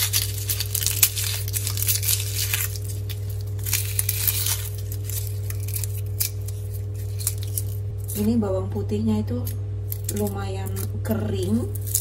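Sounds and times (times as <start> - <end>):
garlic skins crackling: 0.0 - 8.7, 9.4 - 12.0
washing machine humming: 0.0 - 12.0.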